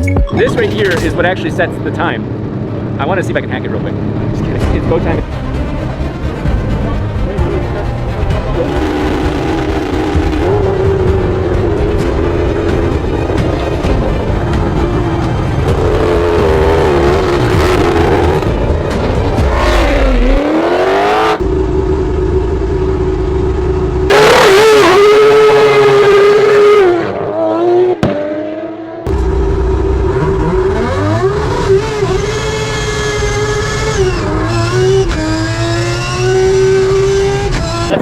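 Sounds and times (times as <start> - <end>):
race car at full throttle: 0.4 - 38.0.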